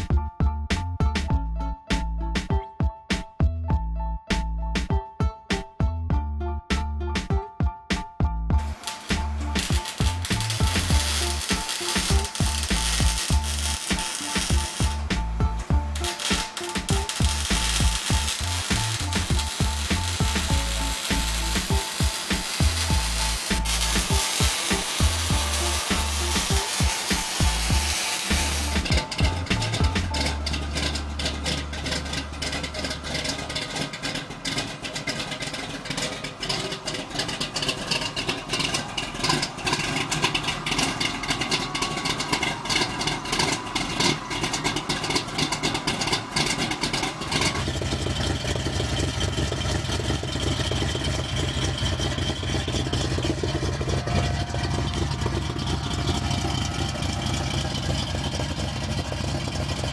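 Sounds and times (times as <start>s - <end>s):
car engine running: 8.3s - 59.9s.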